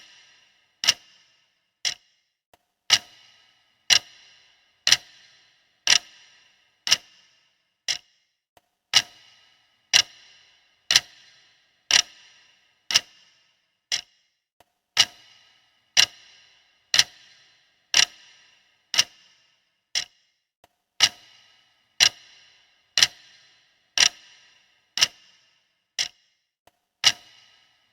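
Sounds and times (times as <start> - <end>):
clock ticking: 0.0 - 27.9.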